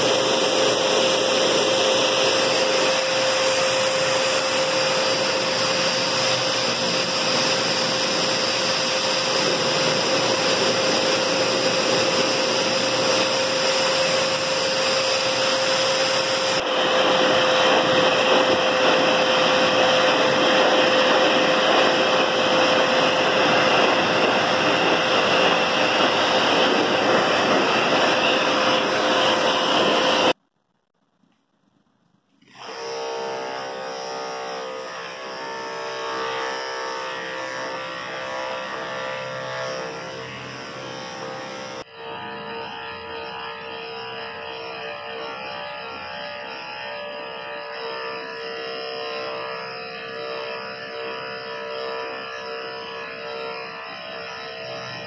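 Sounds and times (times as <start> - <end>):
dog grooming dryer air rush: 0.0 - 30.4, 32.4 - 55.0
motor whine: 0.0 - 30.4, 32.4 - 55.0.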